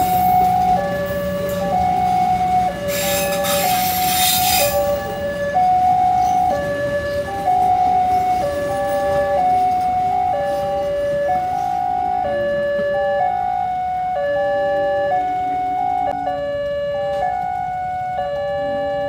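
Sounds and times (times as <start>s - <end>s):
two-tone electronic warning siren: 0.0s - 19.0s.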